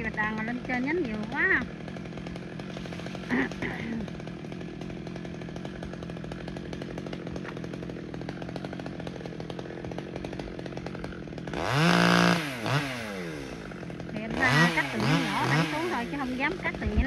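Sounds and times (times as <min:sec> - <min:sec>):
chainsaw idling and revving: 0:00.0 - 0:17.0.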